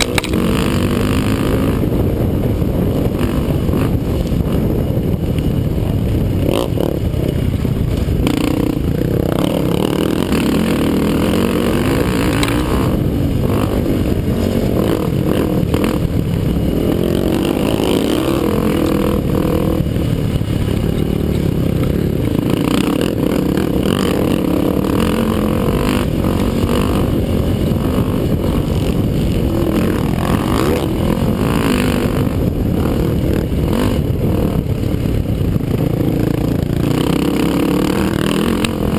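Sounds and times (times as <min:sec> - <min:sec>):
quad engine running hard: 0:00.0 - 0:38.9.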